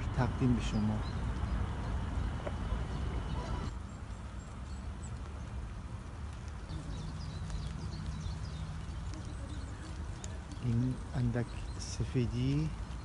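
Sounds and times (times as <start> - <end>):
birds chirping: 0.0 - 13.0
low steady hum: 0.0 - 13.0
wind rumble on microphone: 0.0 - 13.0.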